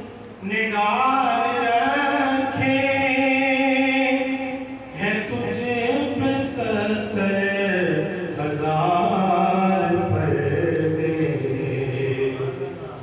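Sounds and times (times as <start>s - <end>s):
man singing unaccompanied: 0.4s - 12.9s.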